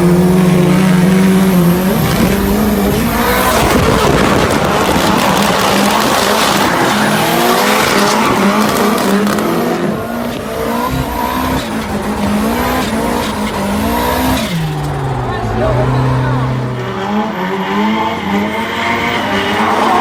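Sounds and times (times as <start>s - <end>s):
car engine revving: 0.0s - 20.0s
tyres squealing and skidding: 0.0s - 20.0s.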